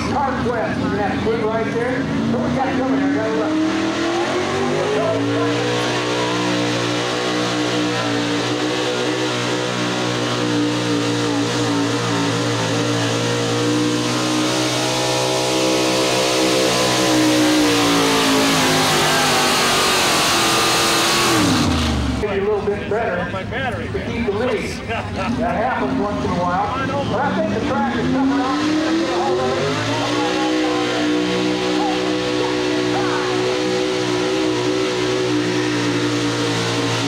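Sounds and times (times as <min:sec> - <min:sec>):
truck engine at high revs: 0:00.0 - 0:37.0.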